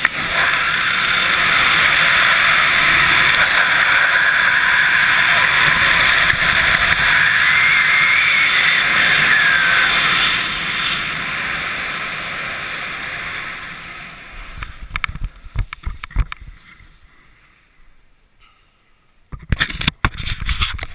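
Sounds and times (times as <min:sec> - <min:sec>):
wind rushing over microphone: 0:00.0 - 0:16.8.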